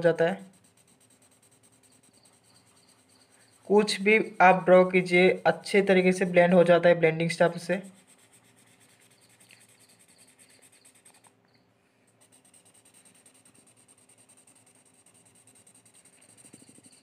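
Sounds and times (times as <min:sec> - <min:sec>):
blending stump rubbing on paper: 0:00.0 - 0:11.4, 0:12.0 - 0:17.0.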